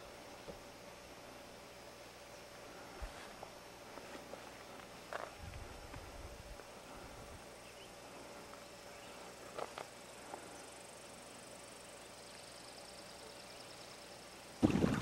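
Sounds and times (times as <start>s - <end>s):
insect-like hum: 0.0s - 15.0s.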